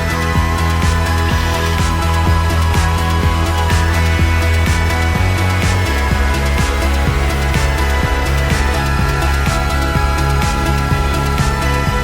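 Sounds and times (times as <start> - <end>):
electronic music with driving beat: 0.0 - 12.0.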